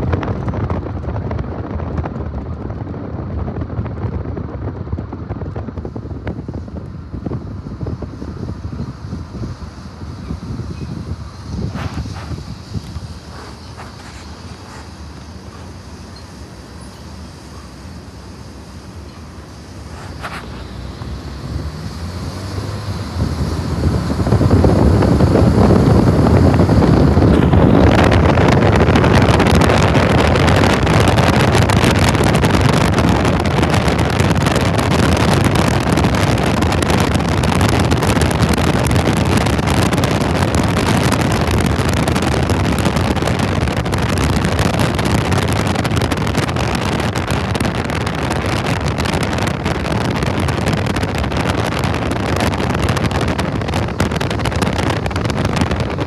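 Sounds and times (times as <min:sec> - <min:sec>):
freight train wheels rumbling: 0:00.0 - 0:56.0
wind buffeting microphone: 0:00.0 - 0:56.0.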